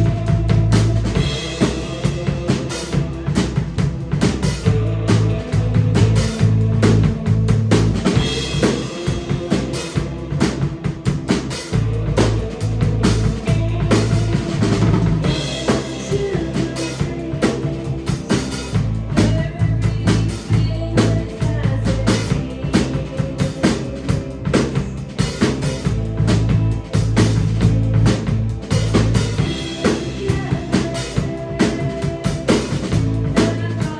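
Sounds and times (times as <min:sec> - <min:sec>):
live rock band playing: 0:00.0 - 0:33.9.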